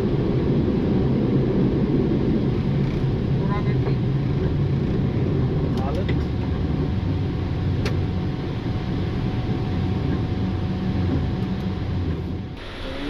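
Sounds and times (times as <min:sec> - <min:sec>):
aircraft engine noise: 0:00.0 - 0:13.0
airflow in cockpit: 0:00.0 - 0:13.0.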